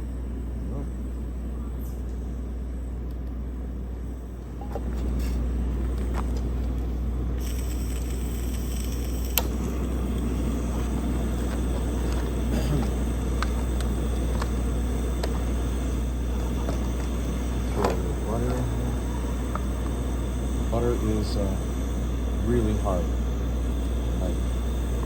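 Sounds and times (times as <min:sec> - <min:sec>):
camp stove burner hissing: 0:03.8 - 0:25.0.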